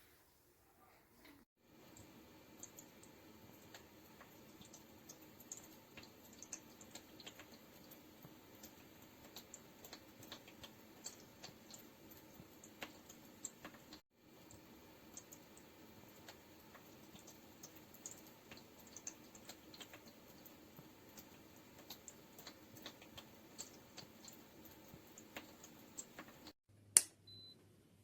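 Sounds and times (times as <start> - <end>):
soft irregular ticks: 1.2 - 26.6
humidifier hum: 1.6 - 26.5.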